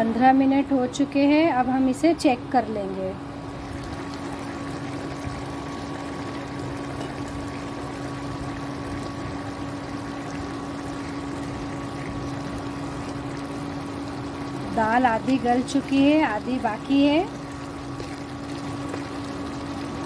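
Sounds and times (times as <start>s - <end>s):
food simmering in a pan: 2.7s - 20.0s.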